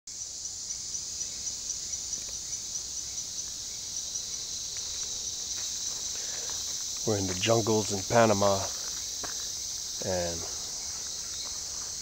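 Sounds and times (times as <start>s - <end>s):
faint insect chirp: 0.1s - 12.0s
insects buzzing: 0.1s - 12.0s.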